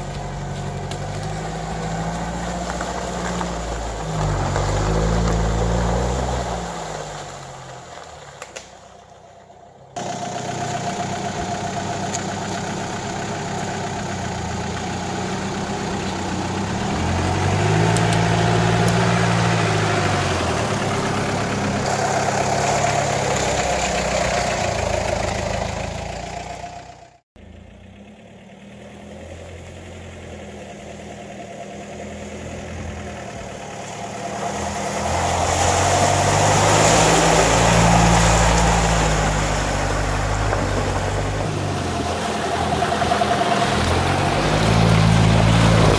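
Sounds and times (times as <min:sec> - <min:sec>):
engine revving: 0:00.0 - 0:07.4, 0:10.0 - 0:45.9
tyres splashing in mud: 0:00.0 - 0:09.0, 0:10.0 - 0:26.5, 0:33.6 - 0:45.9.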